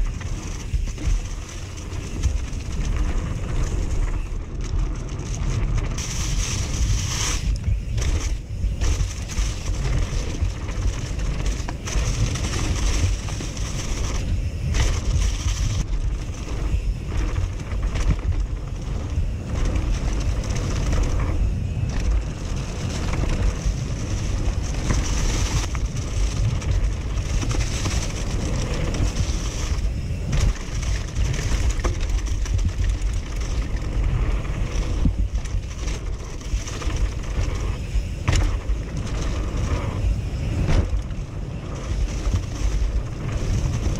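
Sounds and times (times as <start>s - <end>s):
tyres rolling over dirt and leaves: 0.0s - 43.9s
wind buffeting microphone: 0.0s - 43.9s.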